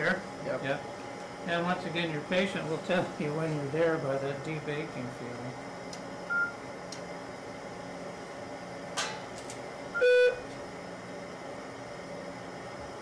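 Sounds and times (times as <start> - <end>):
room equipment hum: 0.0 - 13.0.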